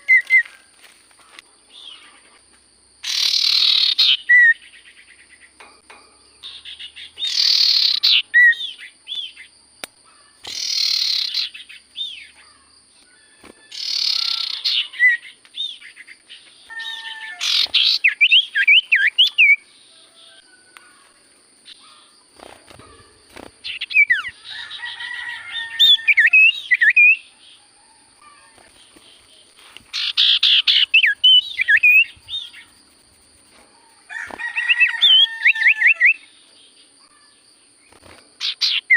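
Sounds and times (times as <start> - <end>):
bird singing buzzy chatter and whistles: 3.0 - 9.5, 10.2 - 20.4, 21.6 - 27.7, 28.6 - 33.1, 34.3 - 38.9.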